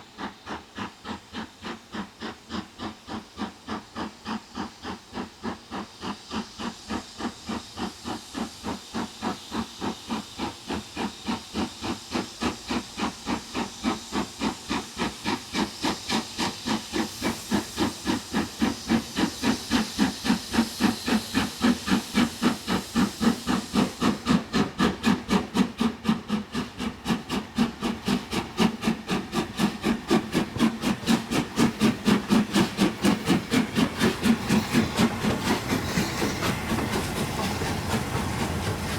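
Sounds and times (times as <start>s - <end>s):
steam locomotive chuffing: 0.0s - 38.9s.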